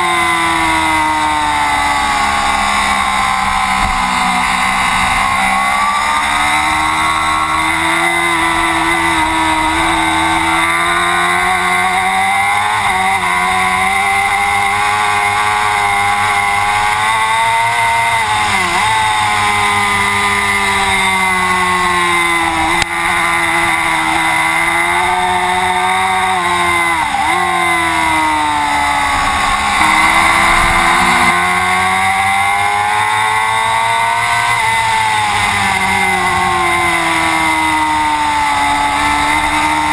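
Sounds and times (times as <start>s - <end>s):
superbike engine at high revs: 0.0s - 39.9s.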